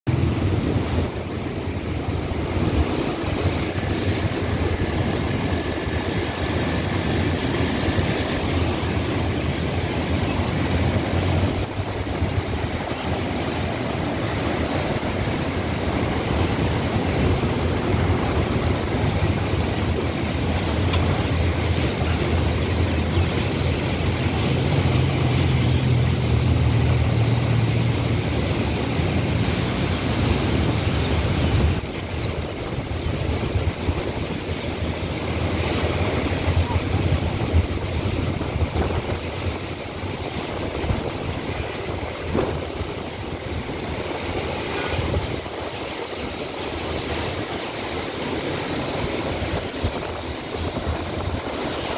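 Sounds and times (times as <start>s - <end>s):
water rushing and churning: 0.1s - 51.9s.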